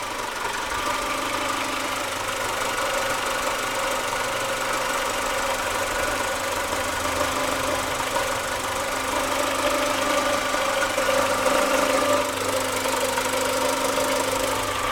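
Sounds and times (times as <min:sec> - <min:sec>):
engine knocking: 0:00.0 - 0:14.9
petrol engine running: 0:00.0 - 0:14.9.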